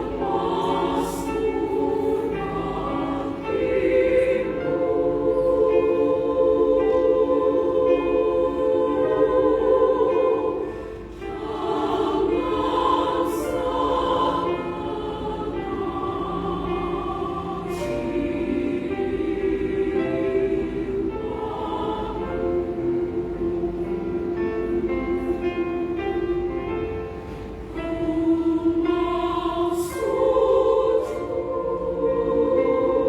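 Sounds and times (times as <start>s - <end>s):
women's choir singing: 0.0s - 33.0s.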